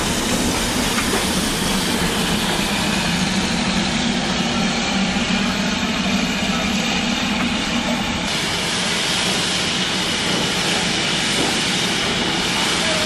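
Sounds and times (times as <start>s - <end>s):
steam locomotive rolling past: 0.0s - 13.0s
steam locomotive rumble: 0.0s - 13.0s.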